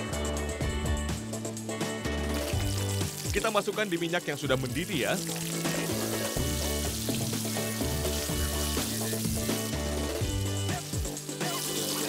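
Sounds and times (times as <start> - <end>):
background music with bass: 0.0 - 12.0
fish deep-frying in hot oil: 2.2 - 12.0.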